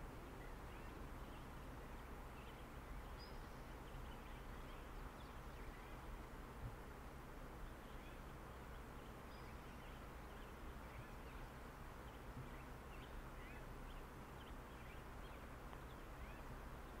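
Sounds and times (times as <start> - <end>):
small birds chirping: 0.0 - 17.0
steady low hiss: 0.0 - 17.0.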